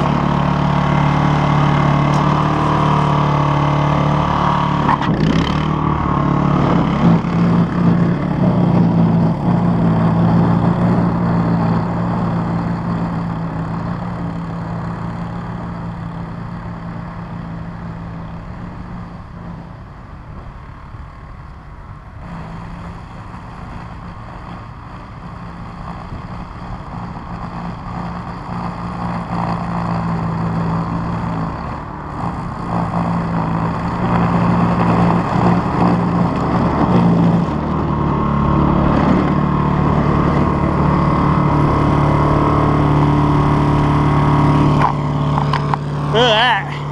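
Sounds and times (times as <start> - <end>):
snow blower engine running: 0.0 - 46.9.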